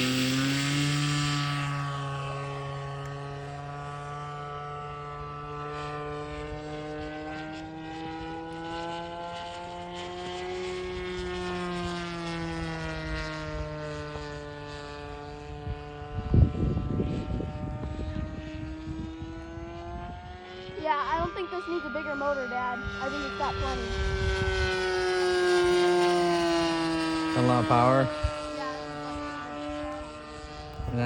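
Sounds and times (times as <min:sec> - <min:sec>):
model airplane motor droning: 0:00.0 - 0:31.0.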